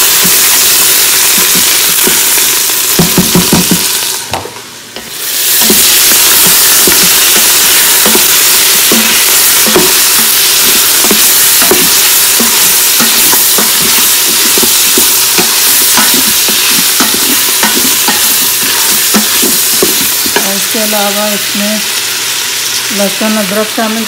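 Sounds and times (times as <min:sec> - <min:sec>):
meat and onions sizzling in oil: 0:00.0 - 0:24.0.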